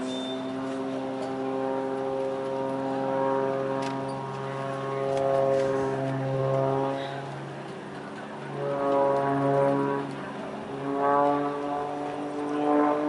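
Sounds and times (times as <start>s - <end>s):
small plane buzzing overhead: 0.0s - 13.0s.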